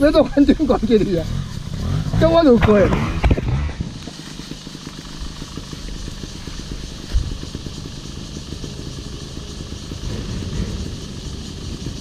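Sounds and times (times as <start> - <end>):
off-road motorcycle engine running: 0.0 - 12.0.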